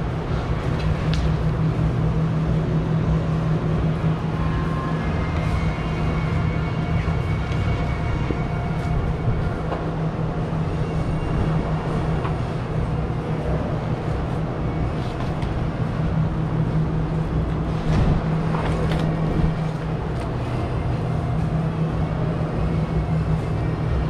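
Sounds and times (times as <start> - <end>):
rumble: 0.0 - 24.0
steady low hum: 0.0 - 24.0.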